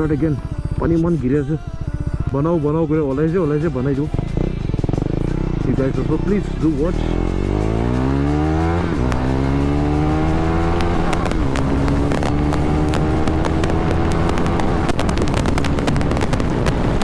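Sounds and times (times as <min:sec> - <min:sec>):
motorcycle engine revving: 0:00.0 - 0:17.0
sharp engine crackles: 0:00.0 - 0:17.0.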